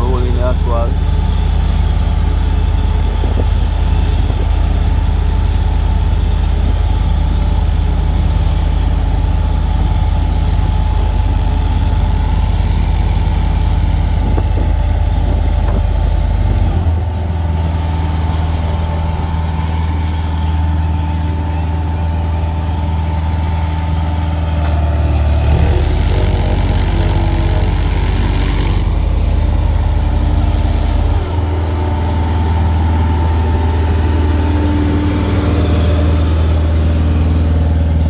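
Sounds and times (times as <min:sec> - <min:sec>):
heavy engine droning: 0:00.0 - 0:38.0.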